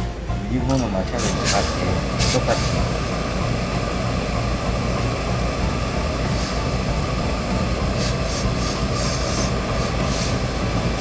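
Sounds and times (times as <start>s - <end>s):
mechanical drone: 0.0s - 11.0s
steam iron hissing: 1.1s - 11.0s.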